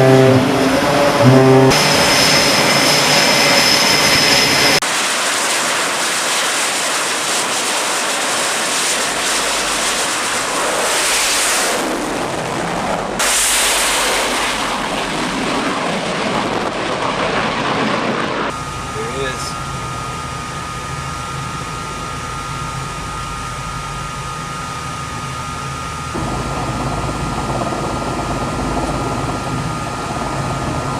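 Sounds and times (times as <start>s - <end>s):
jet engines running loud: 0.0s - 30.9s.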